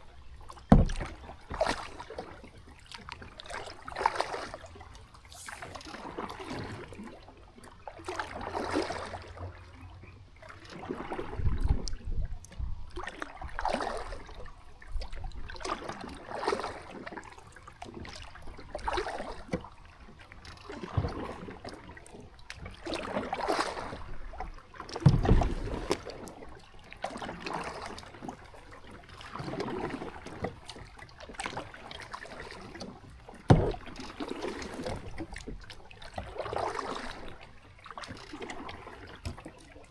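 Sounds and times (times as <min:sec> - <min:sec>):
paddle splashing in river water: 0:00.0 - 0:39.9.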